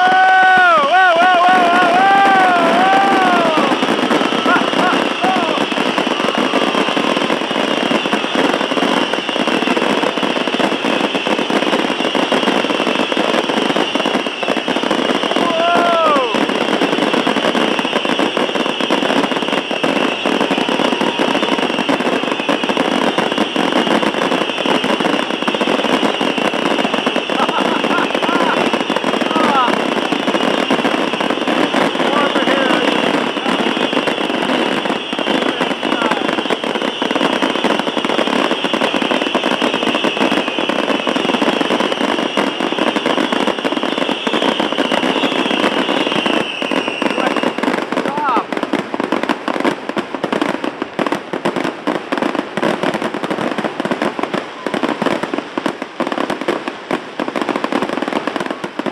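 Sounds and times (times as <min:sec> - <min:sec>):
fireworks barrage: 0:00.0 - 0:58.9.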